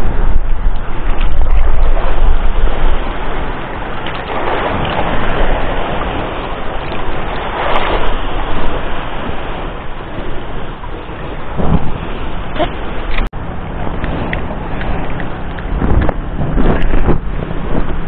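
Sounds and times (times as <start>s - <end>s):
sea wash: 0.0s - 18.0s
wind buffeting microphone: 0.0s - 18.0s.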